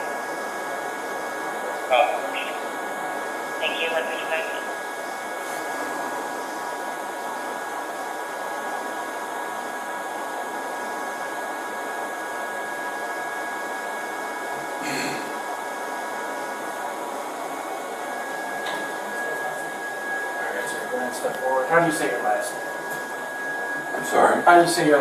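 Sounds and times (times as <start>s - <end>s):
faint high steady tones: 0.0s - 25.0s
fan-like rushing noise: 0.0s - 25.0s.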